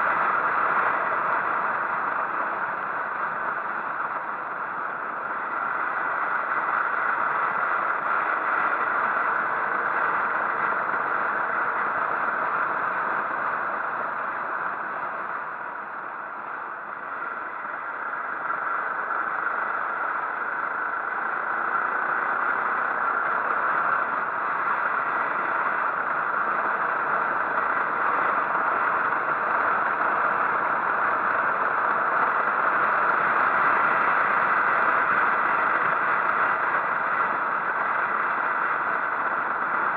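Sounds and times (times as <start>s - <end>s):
wind and motorcycle road noise: 0.0s - 39.9s.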